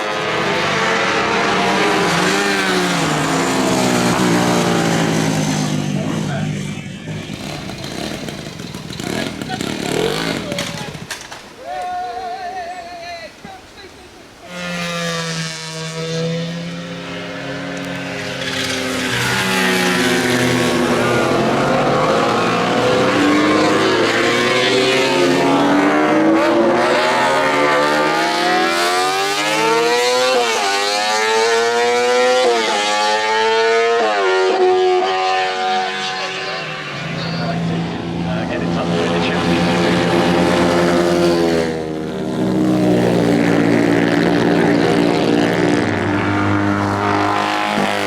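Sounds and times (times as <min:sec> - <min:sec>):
motorcycle engine revving: 0:00.0 - 0:11.5, 0:14.4 - 0:48.0.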